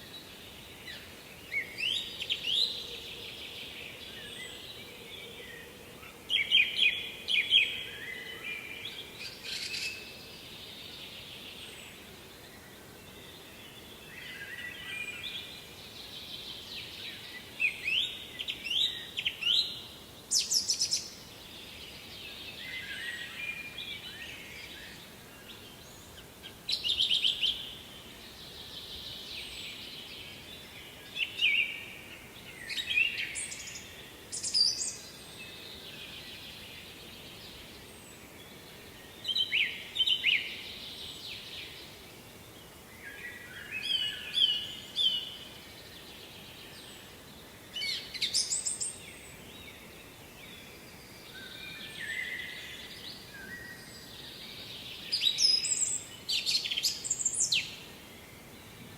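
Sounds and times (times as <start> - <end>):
faint background hiss: 0.0 - 58.9
songbirds singing: 0.0 - 58.9.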